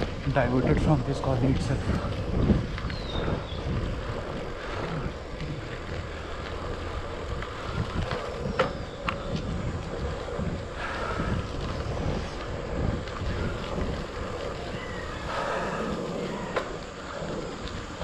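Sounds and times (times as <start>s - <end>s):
bicycle tyres rumbling on road: 0.0s - 18.0s
wind on microphone: 0.0s - 18.0s.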